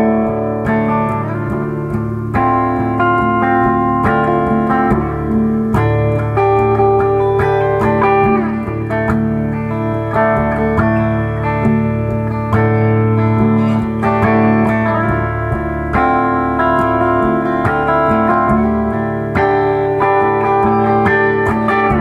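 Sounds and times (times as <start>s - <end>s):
electric guitar notes and chords: 0.0s - 22.0s.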